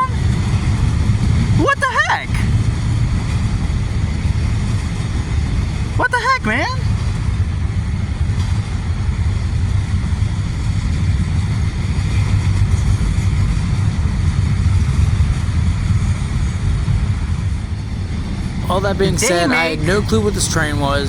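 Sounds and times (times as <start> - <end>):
train passing rumble: 0.0 - 1.6, 2.3 - 6.0, 6.8 - 19.2, 19.8 - 21.0.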